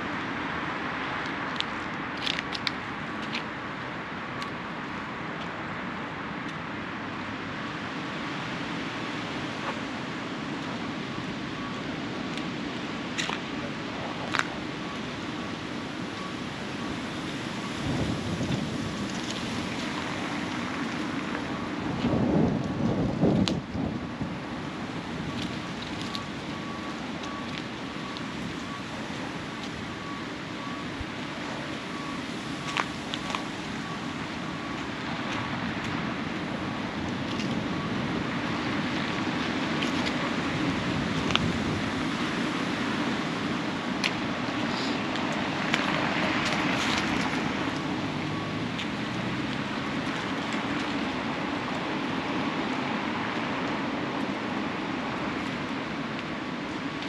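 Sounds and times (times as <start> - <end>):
city traffic hum: 0.0 - 57.0.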